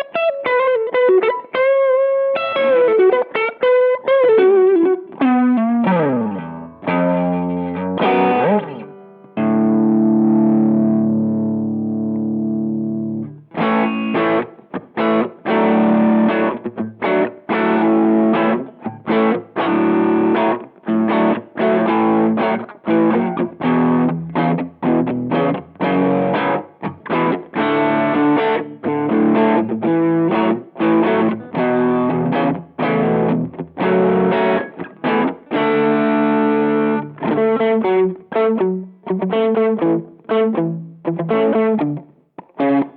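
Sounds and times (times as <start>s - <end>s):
distorted electric guitar chords: 0.0s - 42.9s.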